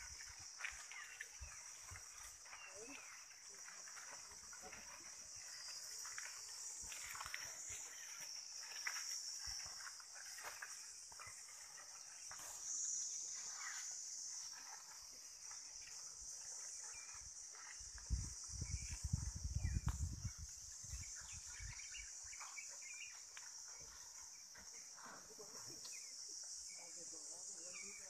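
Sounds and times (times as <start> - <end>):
insects chirping chorus: 0.0 - 28.0.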